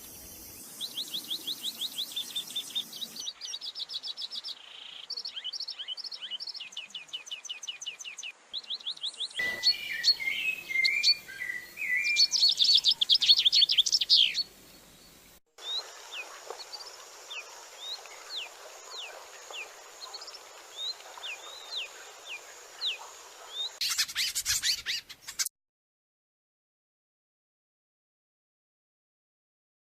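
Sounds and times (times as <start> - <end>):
songbirds singing and calling: 0.0 - 25.5.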